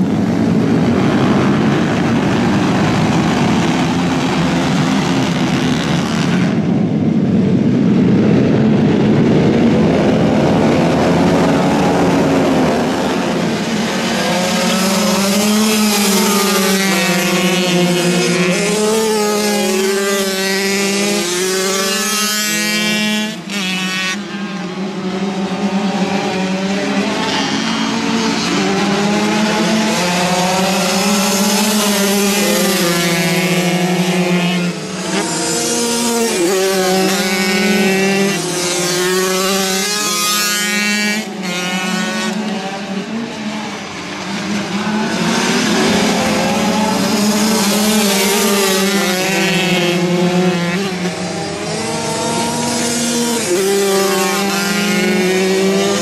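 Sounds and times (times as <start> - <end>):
racing motorcycle engines: 0.0 - 56.0.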